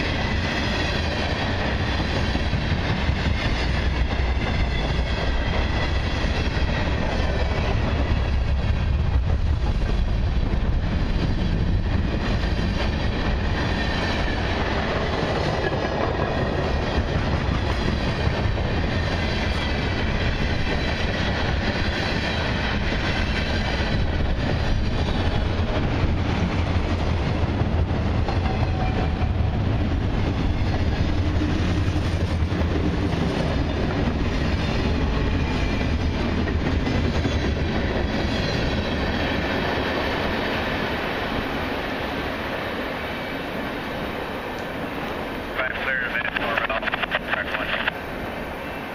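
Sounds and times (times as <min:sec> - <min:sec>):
freight train cars rolling past: 0:00.0 - 0:48.9.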